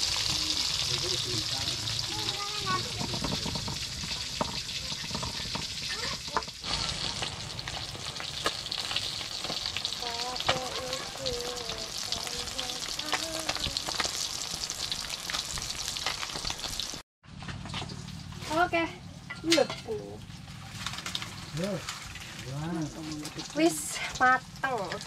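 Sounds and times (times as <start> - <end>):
fish sizzling in hot oil: 0.0 - 17.0, 19.9 - 25.0.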